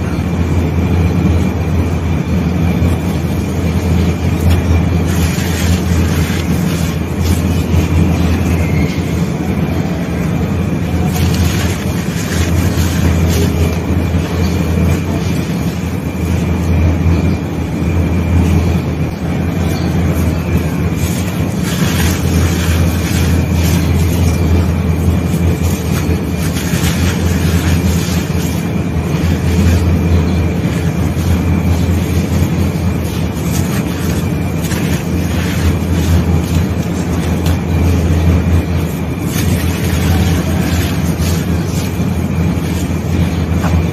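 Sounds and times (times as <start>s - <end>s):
steady low rumble: 0.0s - 43.9s
falling grit crackle: 0.3s - 43.9s.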